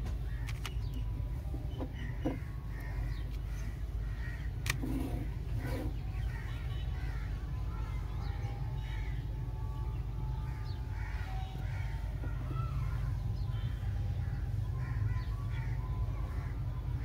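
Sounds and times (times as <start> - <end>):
birds calling: 0.0 - 17.0
steady low rumble: 0.0 - 17.0.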